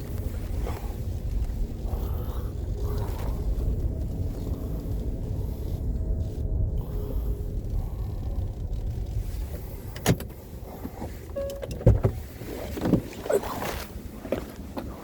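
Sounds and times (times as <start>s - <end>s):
engine running low rumble: 0.0s - 15.0s.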